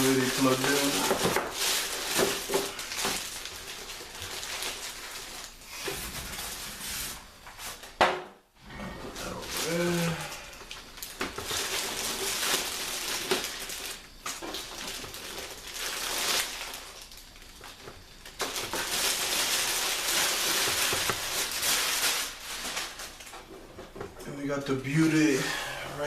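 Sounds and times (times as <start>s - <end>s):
packaging rustling and crinkling: 0.0s - 8.0s, 9.0s - 24.2s.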